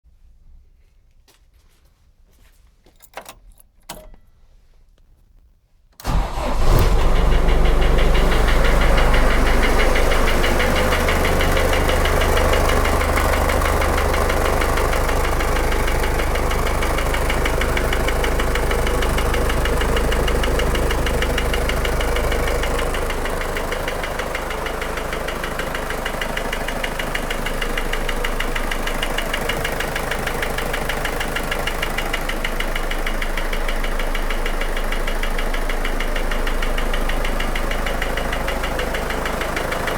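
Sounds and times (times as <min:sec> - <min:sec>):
diesel engine starting and idling: 0:06.0 - 0:39.9.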